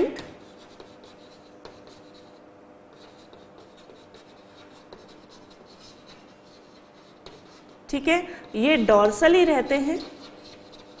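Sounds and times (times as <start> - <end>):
chalk tap: 0.2 - 2.3, 2.9 - 7.8, 8.4 - 11.0
chalk scratching on blackboard: 0.2 - 11.0.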